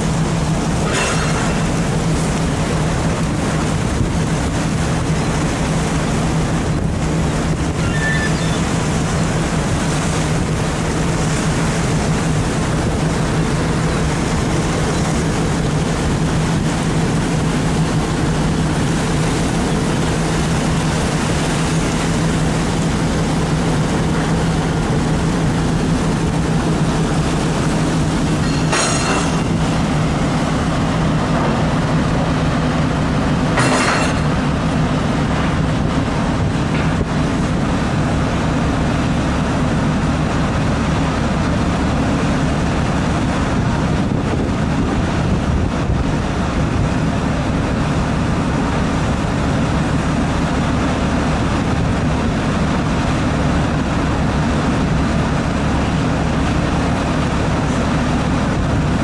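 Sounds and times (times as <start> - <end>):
boat machinery droning: 0.0 - 59.0
sea and wind rushing: 0.0 - 59.0.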